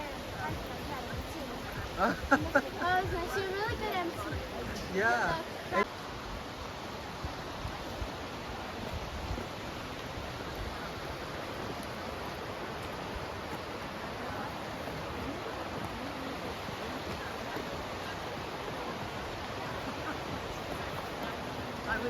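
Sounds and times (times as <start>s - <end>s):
fast creek water: 0.0s - 22.0s
waterfall roaring: 0.0s - 22.0s.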